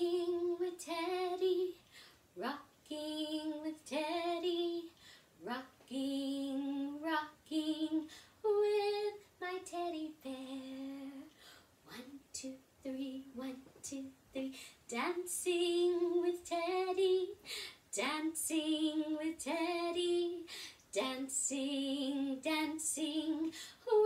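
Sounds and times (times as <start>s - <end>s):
woman singing unaccompanied: 0.0s - 1.8s, 2.4s - 24.0s.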